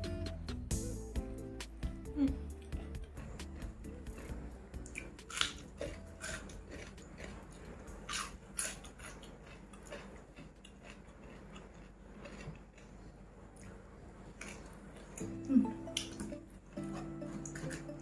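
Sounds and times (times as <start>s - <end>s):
person chewing food: 2.2s - 18.0s
food crunching: 2.6s - 18.0s.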